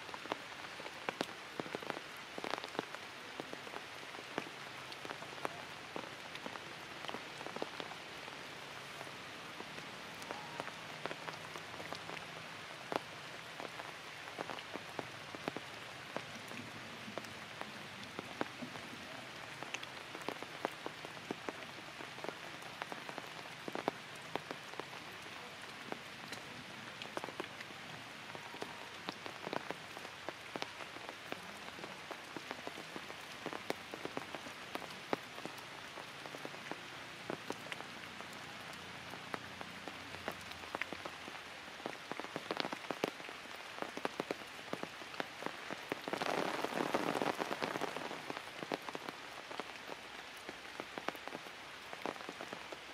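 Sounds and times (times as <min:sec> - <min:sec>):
rain pattering on leaves: 0:00.0 - 0:52.9.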